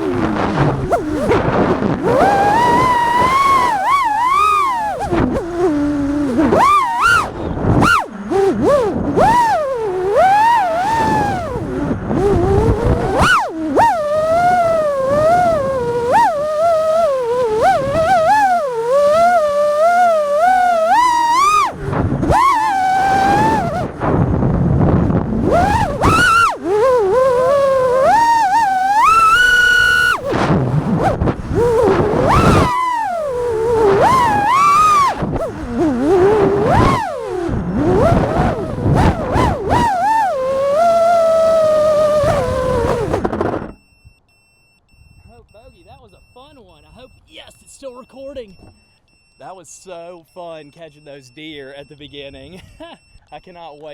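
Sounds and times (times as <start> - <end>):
quadcopter motors whining: 0.0 - 53.9.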